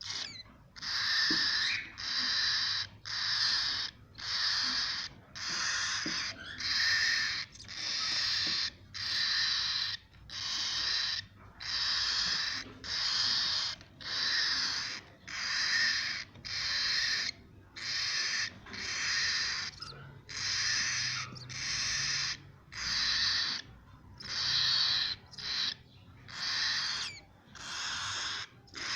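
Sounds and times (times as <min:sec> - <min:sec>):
bird chicks rasping calls: 0:00.0 - 0:28.9.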